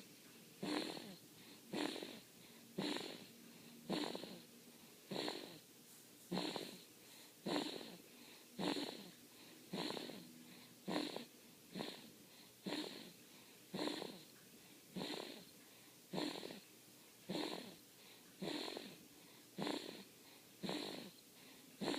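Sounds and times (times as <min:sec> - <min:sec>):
baby snoring: 0:00.6 - 0:05.6, 0:06.3 - 0:14.3, 0:14.9 - 0:15.5, 0:16.1 - 0:17.8, 0:18.4 - 0:21.9.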